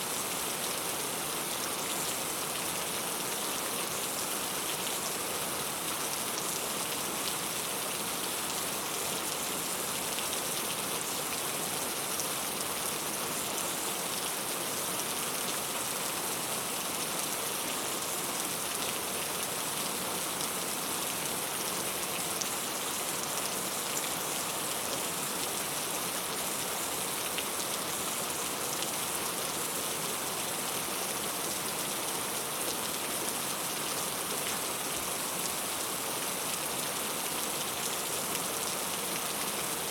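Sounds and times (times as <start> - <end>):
steady rain on a surface: 0.0 - 39.9.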